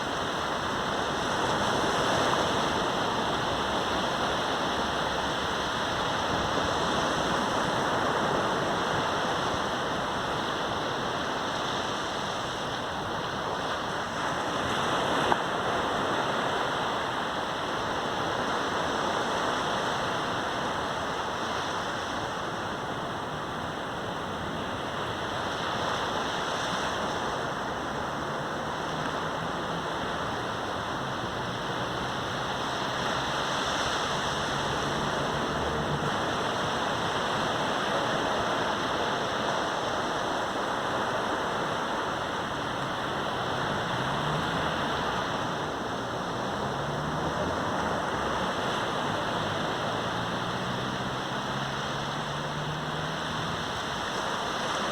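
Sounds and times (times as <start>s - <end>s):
surf washing onto beach: 0.0s - 54.9s.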